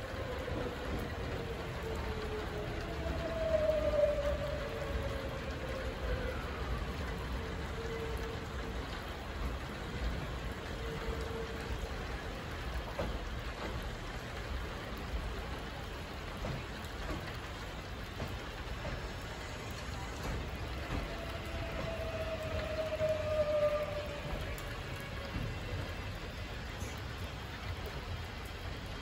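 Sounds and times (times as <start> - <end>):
train rolling with low rumble: 0.0 - 29.0.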